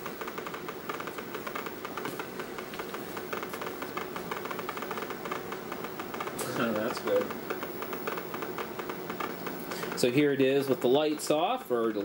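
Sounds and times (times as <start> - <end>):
speaker clicking rapidly: 0.0 - 12.0.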